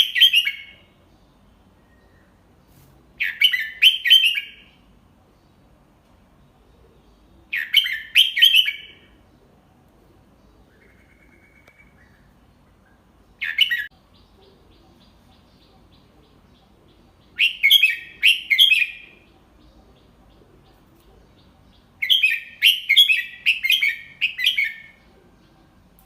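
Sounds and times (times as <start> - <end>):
bulbul singing: 0.0 - 2.5, 6.7 - 9.6, 10.2 - 26.0.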